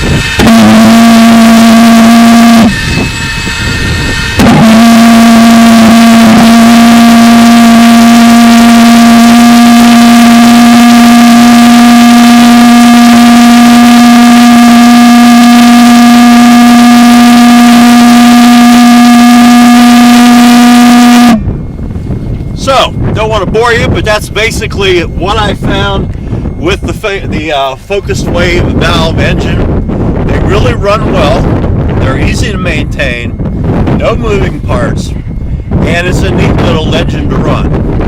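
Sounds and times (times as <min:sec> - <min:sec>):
pulse jet engine droning: 0:00.0 - 0:38.0.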